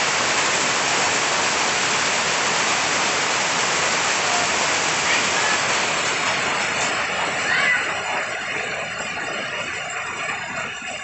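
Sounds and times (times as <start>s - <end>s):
rain falling on leaves: 0.0s - 11.0s.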